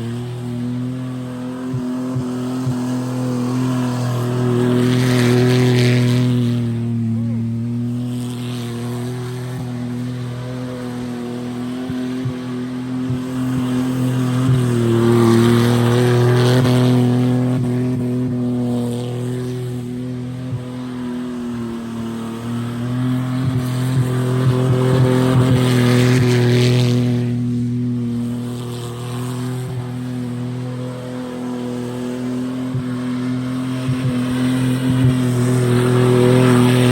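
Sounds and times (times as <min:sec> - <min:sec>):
car engine at high revs: 0:00.0 - 0:36.9.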